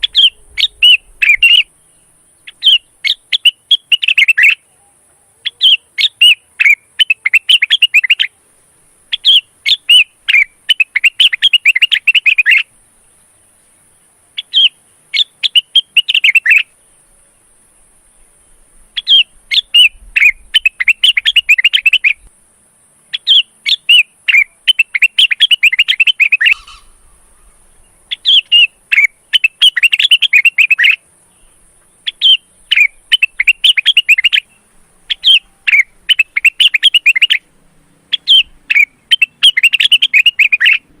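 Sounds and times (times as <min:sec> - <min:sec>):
bird singing rapid chirping notes: 0:00.0 - 0:04.8, 0:05.4 - 0:41.0
faint high hiss: 0:00.0 - 0:41.0.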